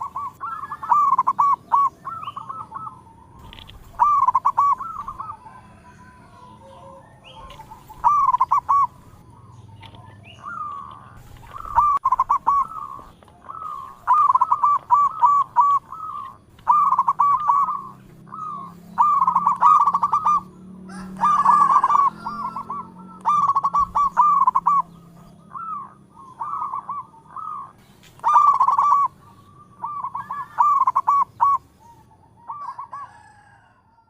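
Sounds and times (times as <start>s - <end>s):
dove cooing: 0.0s - 33.8s.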